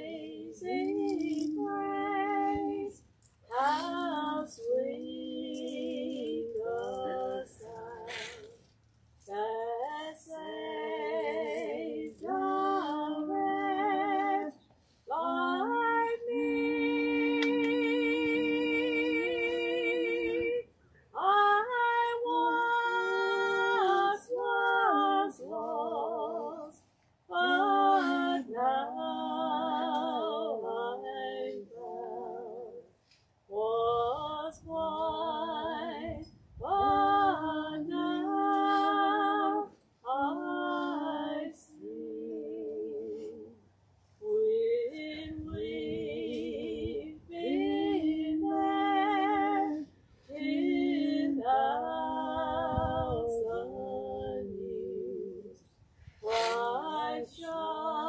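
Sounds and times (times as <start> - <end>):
woman singing slow song: 0.0 - 32.9, 33.5 - 43.6, 44.2 - 58.0.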